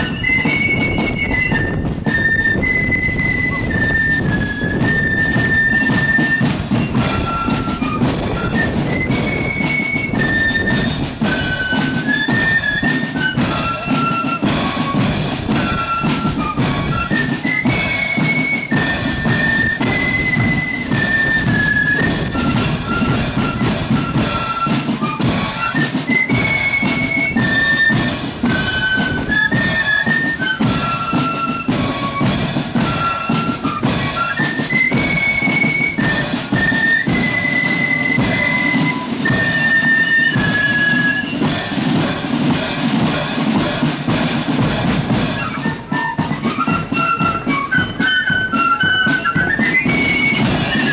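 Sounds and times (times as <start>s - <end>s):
bass and snare drums marching beat: 0.0s - 50.9s
flute band playing: 0.0s - 50.9s.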